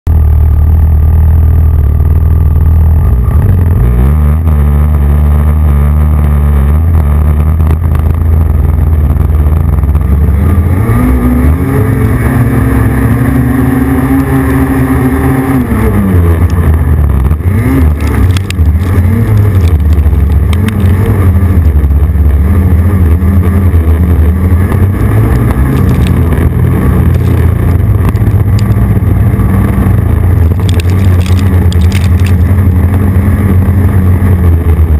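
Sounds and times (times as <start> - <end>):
snowmobile engine revving: 0.2 - 34.9.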